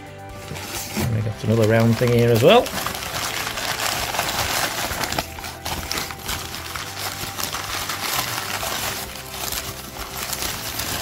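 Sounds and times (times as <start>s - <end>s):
newspaper rustling and crinkling: 0.4s - 11.0s.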